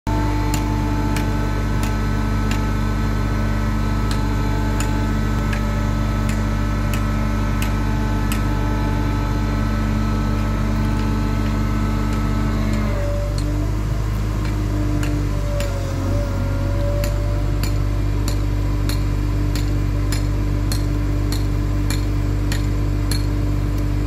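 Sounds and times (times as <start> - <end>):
machinery hum: 0.1 - 24.0.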